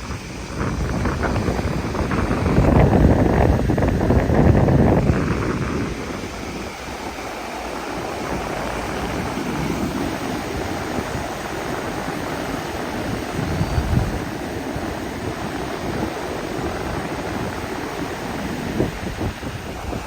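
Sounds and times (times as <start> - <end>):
sea waves rushing: 0.0 - 20.0
wind buffeting microphone: 0.0 - 20.0.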